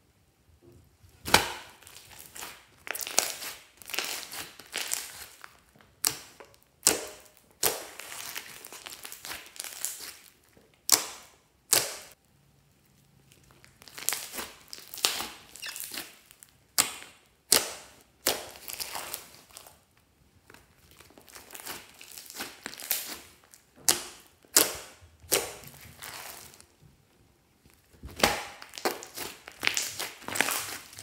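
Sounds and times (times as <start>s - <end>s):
slime squishing: 1.1s - 31.0s
slime popping and crackling: 1.2s - 12.2s, 13.2s - 26.7s, 27.6s - 31.0s.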